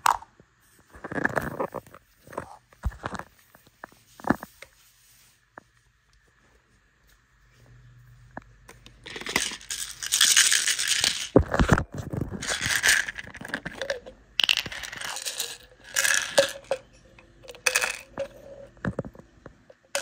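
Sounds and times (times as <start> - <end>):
plastic toys rustling and clattering: 0.0 - 5.4, 8.8 - 20.0.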